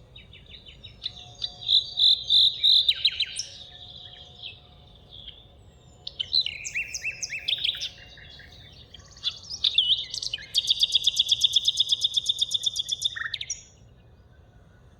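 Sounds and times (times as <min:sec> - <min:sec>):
songbirds chirping and whistling: 0:00.0 - 0:14.9.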